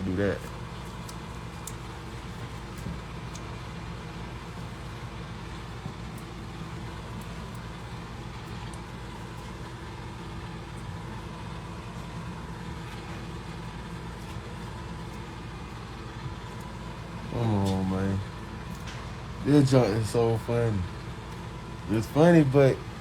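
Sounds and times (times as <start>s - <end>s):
motor humming: 0.0s - 23.0s.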